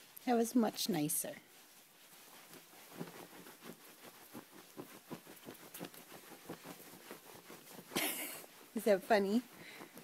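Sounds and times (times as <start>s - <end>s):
soft patting and tapping: 1.5s - 10.0s.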